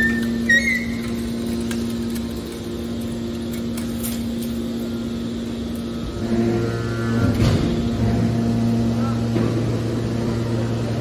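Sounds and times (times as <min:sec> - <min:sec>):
hydraulic pump hum: 0:00.0 - 0:11.0.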